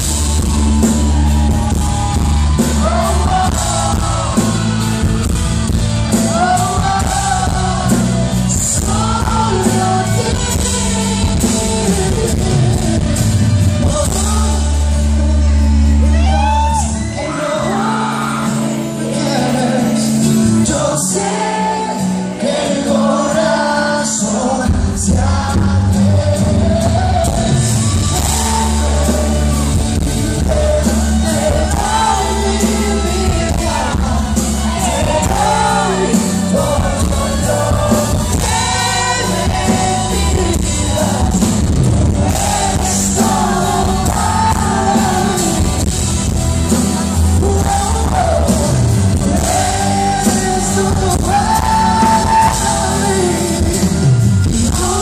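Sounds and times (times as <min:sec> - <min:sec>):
live pop band: 0:00.0 - 0:55.0
man singing through pa: 0:06.1 - 0:45.9, 0:47.2 - 0:55.0.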